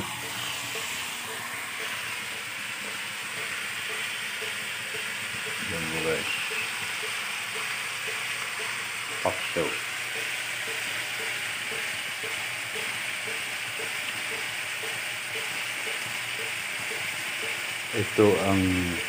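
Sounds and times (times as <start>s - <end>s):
faint regular ticking: 0.0s - 18.2s
food sizzling in a pan: 0.0s - 19.0s.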